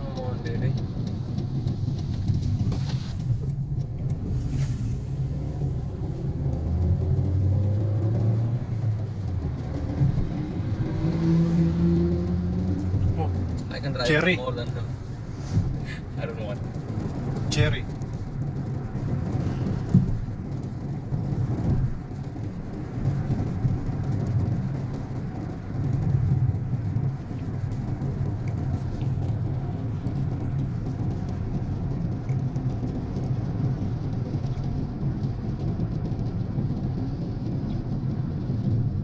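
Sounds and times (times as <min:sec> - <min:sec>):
car driving on wet road: 0:00.0 - 0:39.0.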